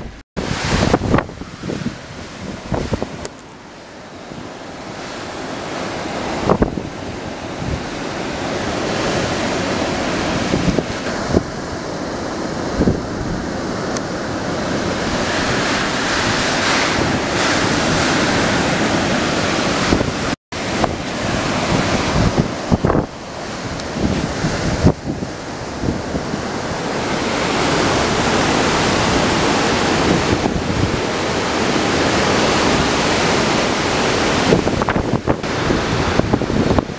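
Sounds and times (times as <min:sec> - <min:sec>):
strong wind buffeting microphone: 0:00.0 - 0:36.9.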